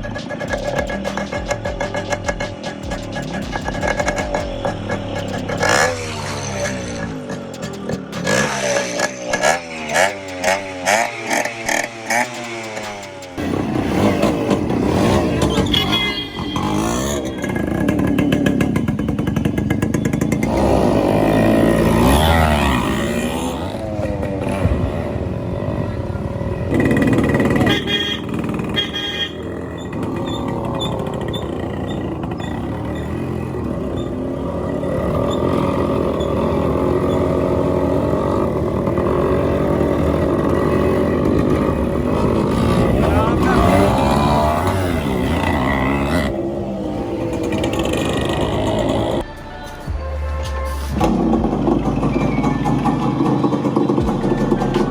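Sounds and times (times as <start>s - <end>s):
two-stroke motorcycle engine revving: 0.0s - 49.3s, 51.0s - 54.9s.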